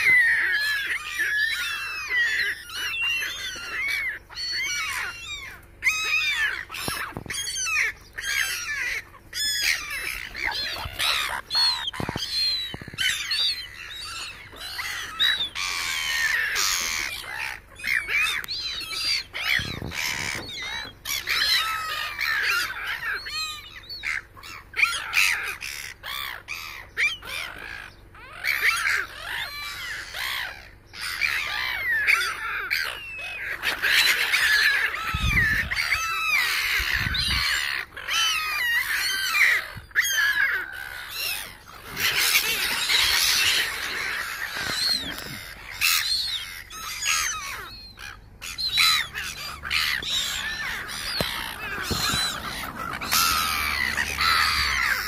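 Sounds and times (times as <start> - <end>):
gulls calling: 0.0 - 55.0.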